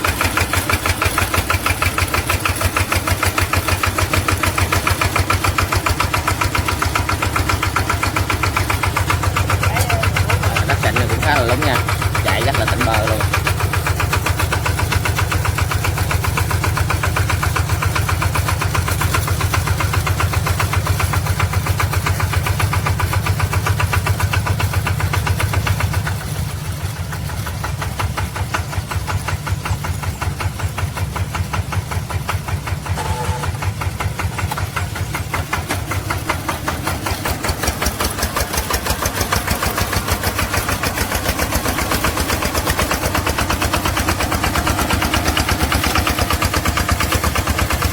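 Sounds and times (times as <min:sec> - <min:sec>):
machine engine running: 0:00.0 - 0:47.9.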